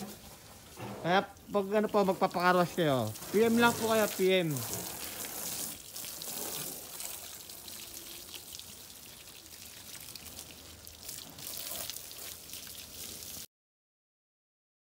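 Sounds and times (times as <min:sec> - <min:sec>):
hose water spraying on truck: 0:00.0 - 0:13.5
water splashing on wet ground: 0:00.0 - 0:13.5.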